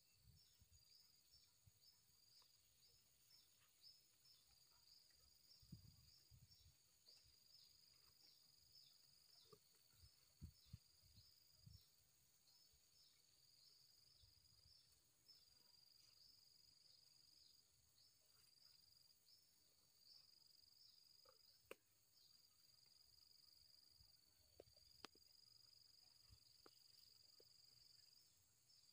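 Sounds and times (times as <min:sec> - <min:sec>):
insect chirping: 0:00.0 - 0:28.9.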